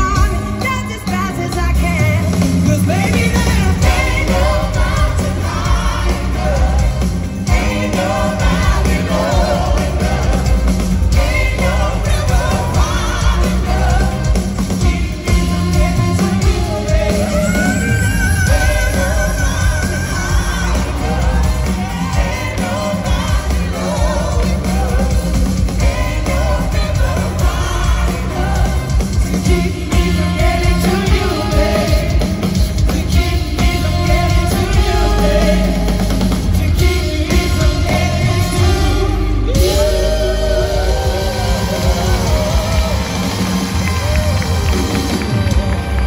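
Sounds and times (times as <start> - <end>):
live band playing pop-soul: 0.0 - 46.0
several voices singing: 0.0 - 46.0.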